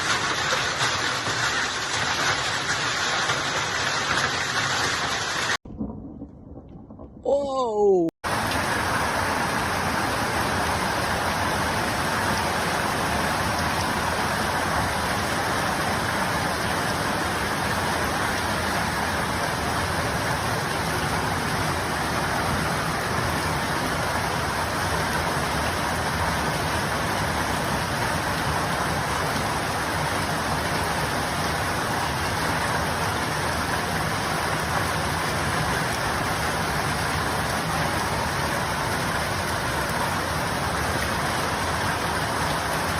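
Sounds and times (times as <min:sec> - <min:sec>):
heavy rain pouring: 0:00.0 - 0:06.3, 0:07.0 - 0:42.9.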